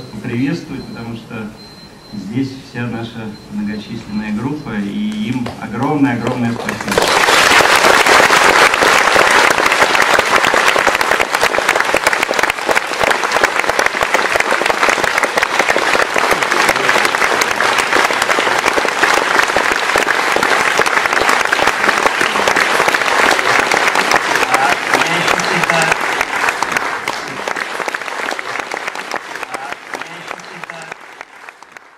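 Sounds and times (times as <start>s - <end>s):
audience applauding: 6.2s - 31.9s.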